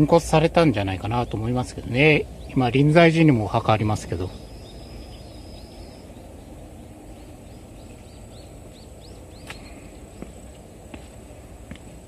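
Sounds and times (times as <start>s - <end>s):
bird chirping: 0.0s - 10.8s
steady low rumble: 0.0s - 12.0s.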